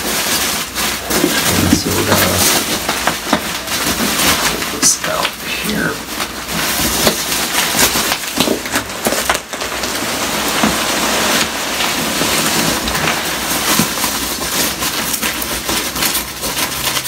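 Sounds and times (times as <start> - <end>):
bubble wrap and cardboard crinkling: 0.0 - 17.0.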